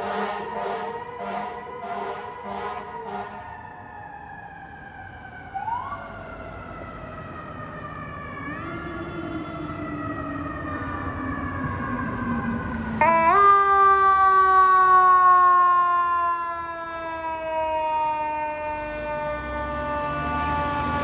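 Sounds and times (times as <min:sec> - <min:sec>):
fire truck siren: 0:00.0 - 0:21.0.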